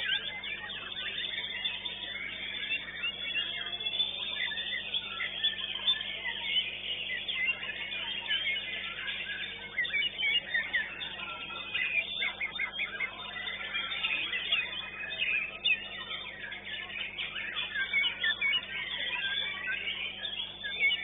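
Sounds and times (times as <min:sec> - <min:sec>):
other birds chirping: 0:00.0 - 0:21.0
songbird singing fast varied song: 0:00.0 - 0:21.0.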